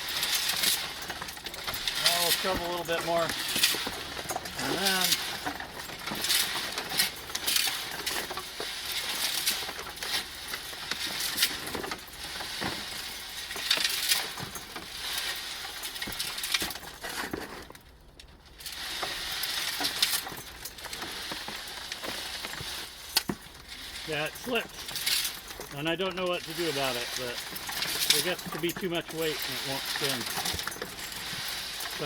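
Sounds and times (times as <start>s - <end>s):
shovel scraping: 0.0s - 17.7s, 18.6s - 32.0s
rocks tumbling in rotating drum: 0.0s - 32.0s.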